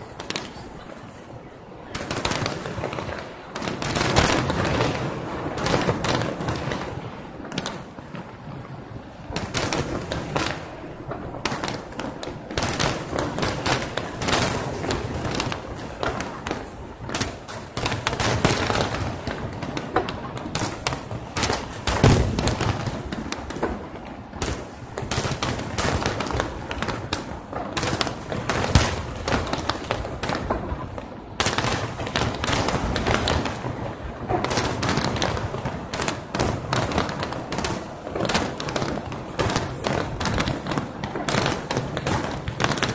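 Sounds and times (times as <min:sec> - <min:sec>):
fireworks bursting: 0:00.0 - 0:42.9.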